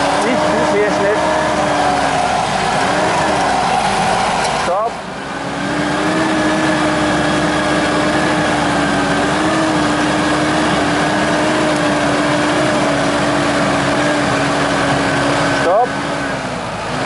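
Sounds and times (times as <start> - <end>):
winch whining: 0.0 - 17.0.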